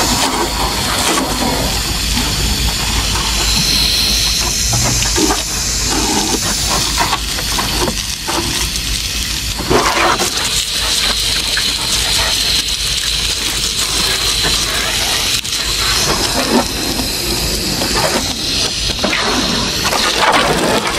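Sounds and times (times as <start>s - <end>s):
water spraying onto car: 0.0s - 20.9s.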